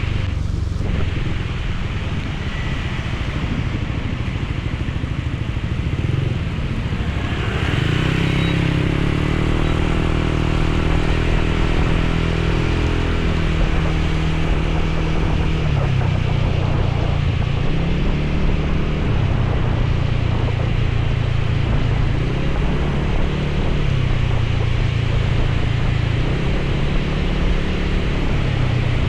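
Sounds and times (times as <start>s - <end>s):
motorcycle engine running: 0.0s - 29.0s
rushing air: 0.0s - 29.0s.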